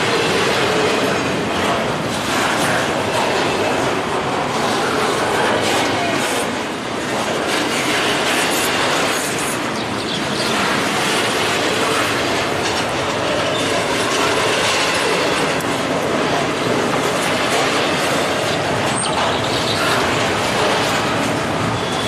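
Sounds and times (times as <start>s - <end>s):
steel train wheels on rail: 0.0s - 22.0s.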